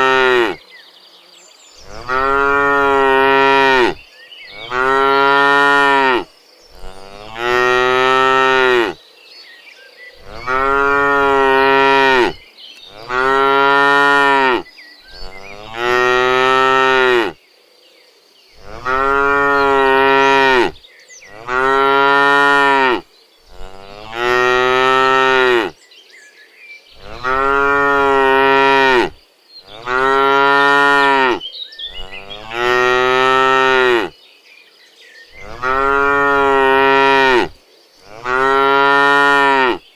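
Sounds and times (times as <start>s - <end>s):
cows mooing: 0.0s - 0.6s, 1.8s - 9.0s, 10.2s - 17.4s, 18.6s - 25.8s, 27.0s - 34.1s, 35.4s - 39.8s.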